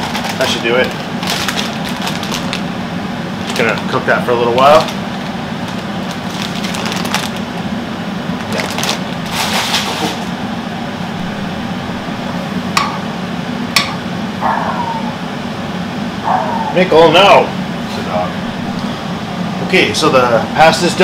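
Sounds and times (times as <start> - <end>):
water boiling: 0.0 - 14.4, 15.1 - 21.0.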